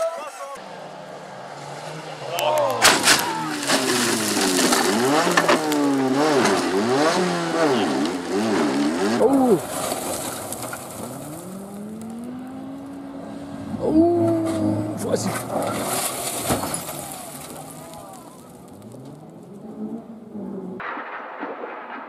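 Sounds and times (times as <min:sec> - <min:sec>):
rally car engines revving: 0:00.0 - 0:20.8.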